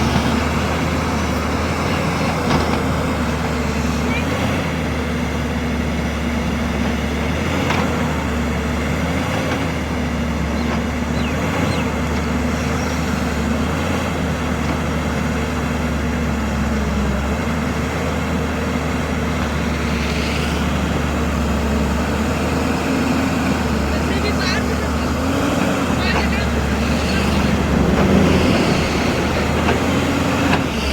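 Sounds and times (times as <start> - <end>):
excavator diesel engine hum: 0.0 - 30.9.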